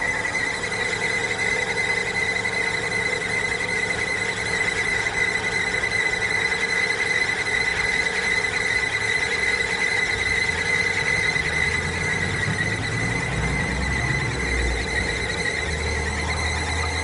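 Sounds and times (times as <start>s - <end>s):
high-pitched belt squeal: 0.0s - 17.0s
low engine rumble: 0.0s - 17.0s.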